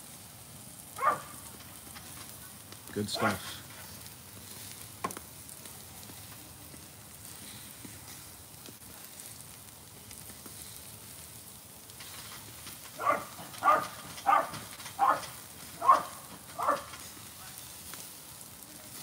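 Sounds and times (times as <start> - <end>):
meat sizzling on grill: 0.0 - 19.0.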